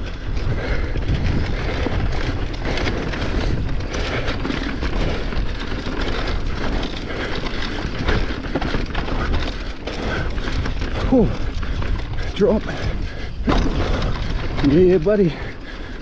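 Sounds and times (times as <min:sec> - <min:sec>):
bike rattles and knocks: 0:00.0 - 0:16.0
tyres rolling over dirt: 0:00.0 - 0:16.0
wind buffeting microphone: 0:00.0 - 0:16.0.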